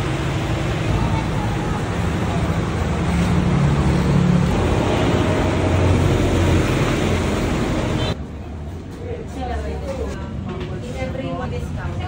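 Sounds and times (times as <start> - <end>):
steady traffic roar: 0.0 - 12.0
vehicles passing close by: 0.0 - 12.0.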